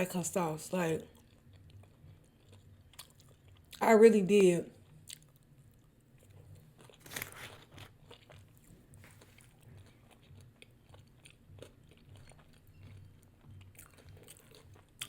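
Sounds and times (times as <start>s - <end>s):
chewing crispy fried food: 1.0s - 3.8s, 4.7s - 15.0s.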